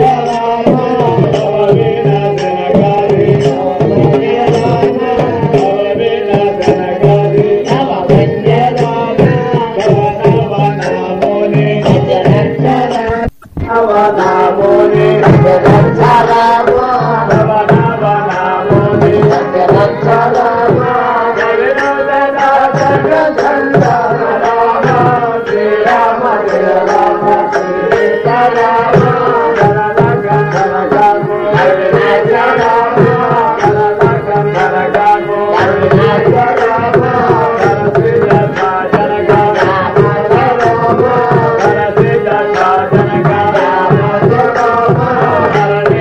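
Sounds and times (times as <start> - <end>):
tabla drumming: 0.0 - 46.0.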